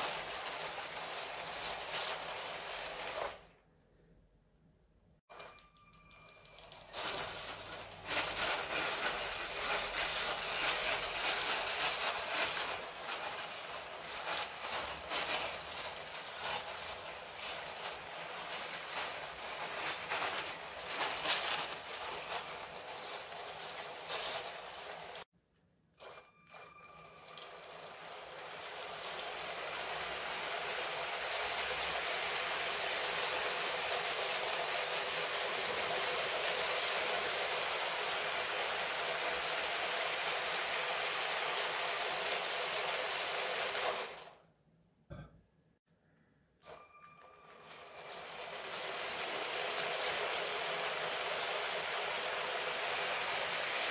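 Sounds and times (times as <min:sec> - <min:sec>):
toy train wheels clattering on track: 0:00.0 - 0:03.4, 0:05.3 - 0:25.3, 0:26.8 - 0:44.4, 0:46.6 - 0:53.9.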